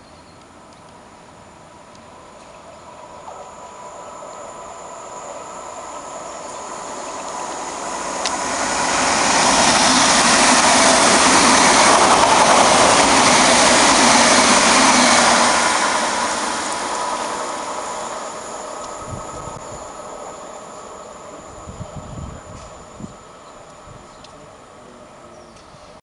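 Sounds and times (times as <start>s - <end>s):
train passing at speed: 0.6s - 25.3s.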